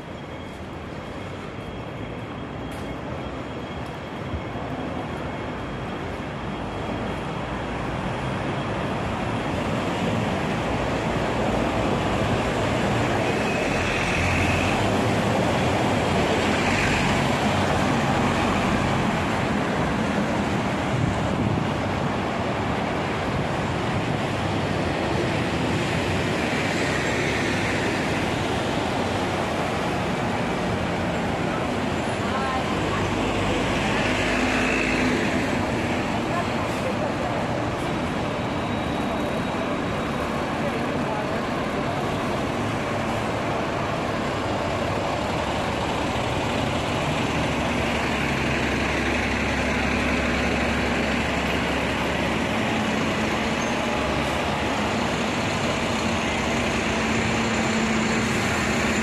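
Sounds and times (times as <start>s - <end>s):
buses passing close by: 0.0s - 59.0s.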